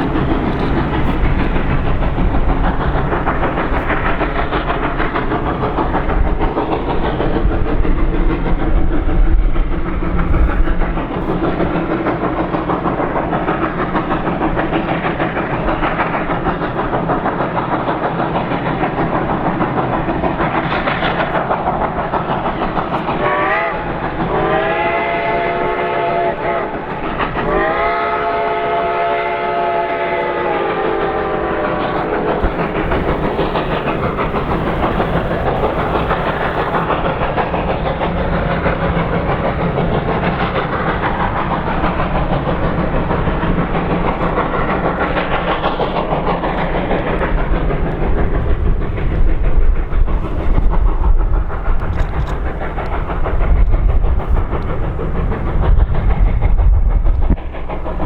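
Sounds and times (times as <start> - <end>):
steam locomotive exhaust and rolling: 0.0 - 58.0.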